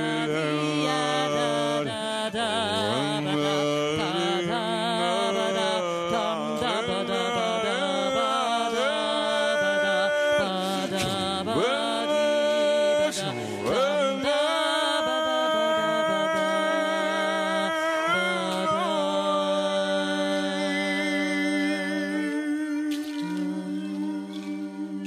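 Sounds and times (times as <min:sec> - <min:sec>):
wavering sung tones: 0:00.0 - 0:25.0.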